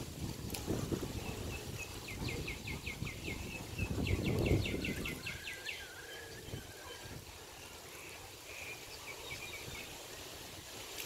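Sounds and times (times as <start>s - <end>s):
wind buffeting microphone: 0.0s - 8.4s, 9.0s - 10.8s.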